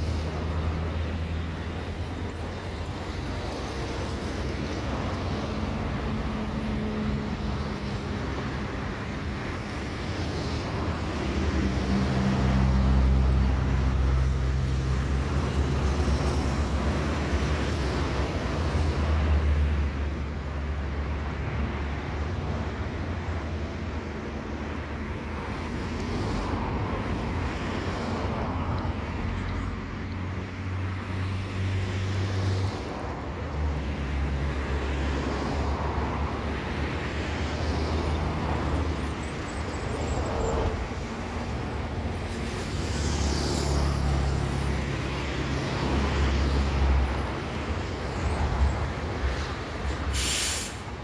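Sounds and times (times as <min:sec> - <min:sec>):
vehicle engines passing: 0:00.0 - 0:51.0.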